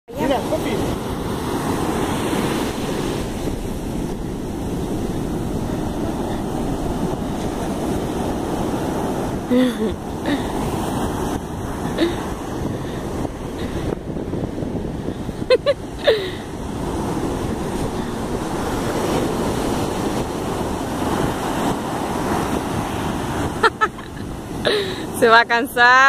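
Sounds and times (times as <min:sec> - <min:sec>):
surf breaking on beach: 0:00.1 - 0:25.6
wind buffeting microphone: 0:00.1 - 0:26.0.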